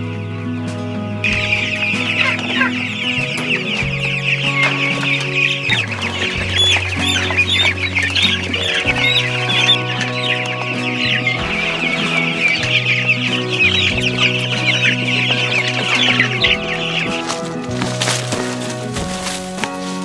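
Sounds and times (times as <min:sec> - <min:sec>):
chicks peeping: 0:00.0 - 0:20.0
music of low held notes: 0:00.0 - 0:20.0.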